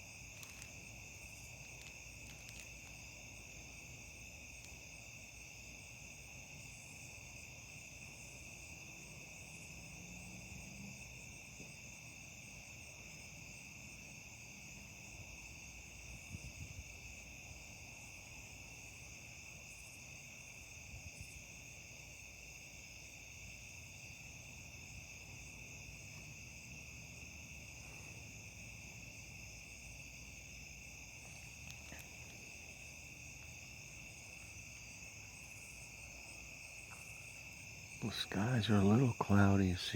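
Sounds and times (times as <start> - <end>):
crickets and insects chirring: 0.0 - 39.9.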